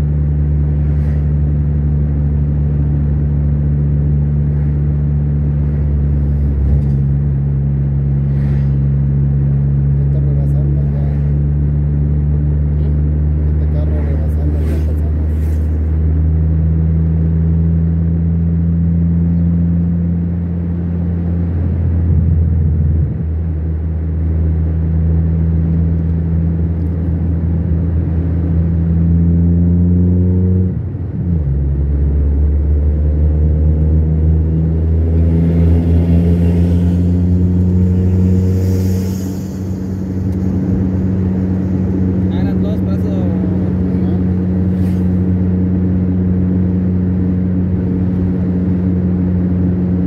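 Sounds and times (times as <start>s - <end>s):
car engine and tyre noise: 0.0s - 50.0s.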